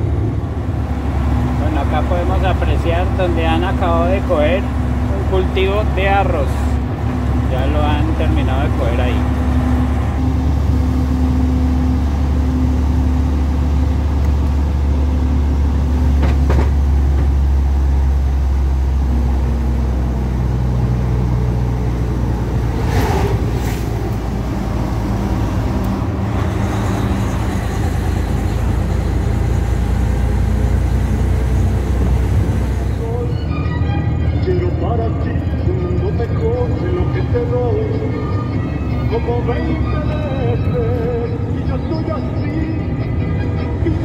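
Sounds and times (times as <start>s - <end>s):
truck engine running: 0.0s - 44.0s.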